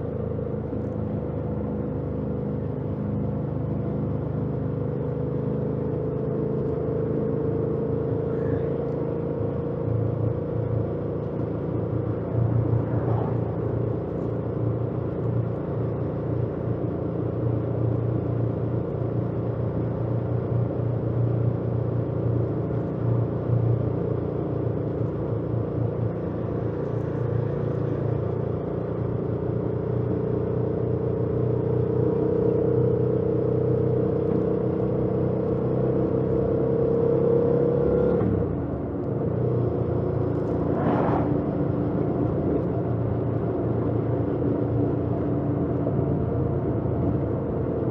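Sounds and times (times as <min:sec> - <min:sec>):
road noise: 0:00.0 - 0:47.9.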